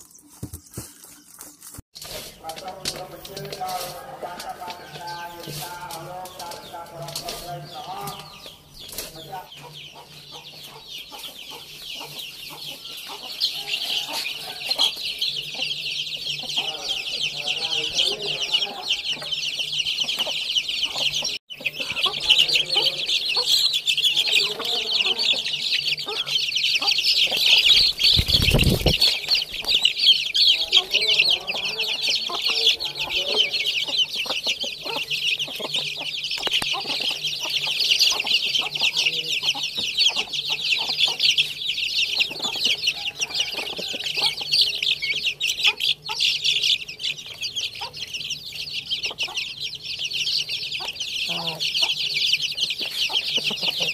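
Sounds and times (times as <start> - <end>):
chicks cheeping: 0.0 - 53.9.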